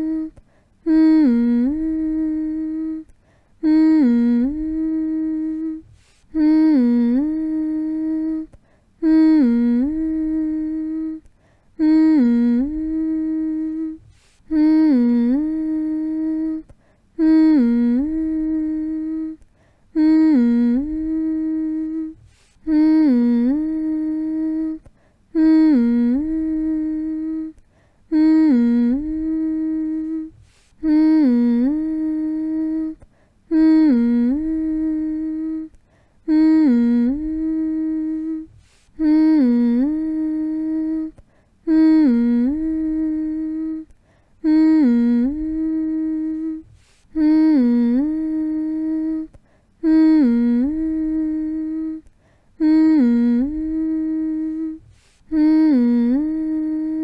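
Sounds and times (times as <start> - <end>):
person humming: 0.0 - 57.0.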